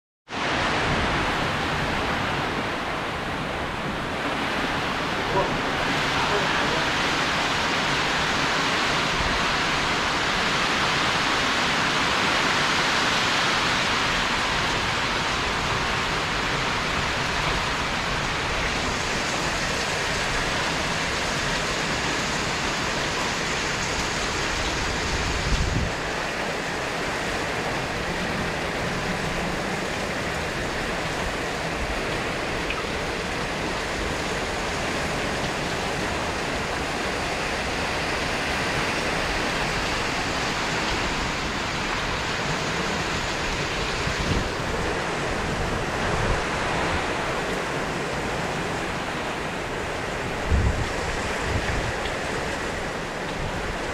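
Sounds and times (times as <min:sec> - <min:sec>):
heavy rain pouring: 0:00.3 - 0:53.9
wind rumbling on microphone: 0:00.3 - 0:53.9.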